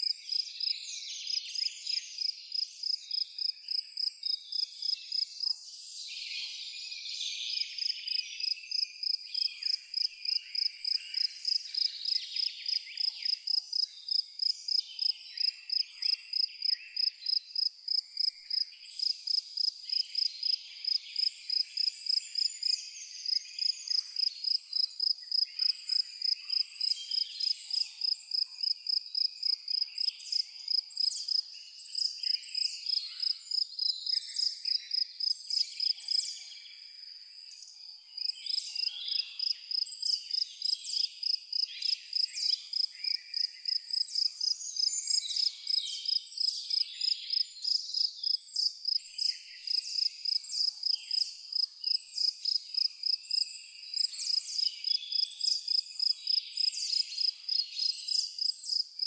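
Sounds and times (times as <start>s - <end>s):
cricket chirping: 1.6s - 6.9s, 7.5s - 59.0s.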